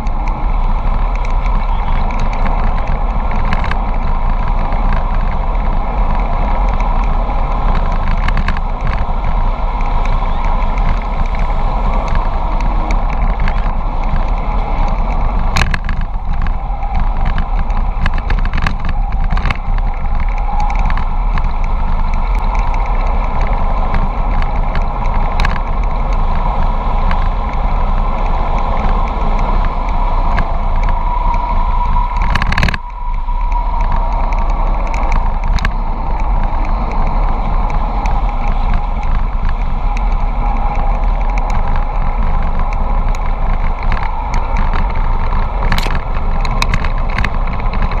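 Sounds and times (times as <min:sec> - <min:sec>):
light clicks and rattles: 0:00.0 - 0:48.0
wind buffeting microphone: 0:00.0 - 0:48.0.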